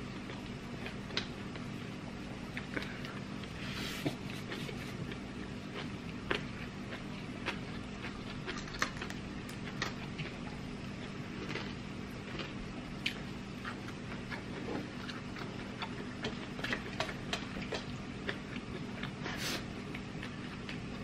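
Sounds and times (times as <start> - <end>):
food being chewed: 0.0 - 21.0
low steady hum: 0.0 - 21.0.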